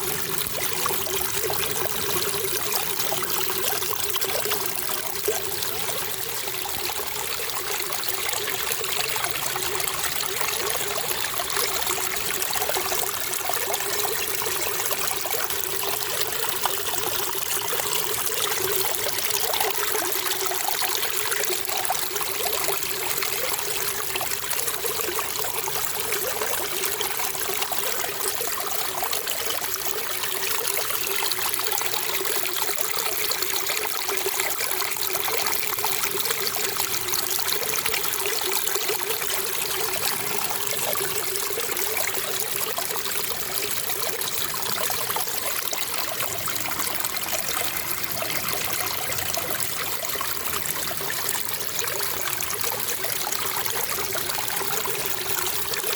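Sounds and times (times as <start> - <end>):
water flowing and trickling: 0.0 - 55.9.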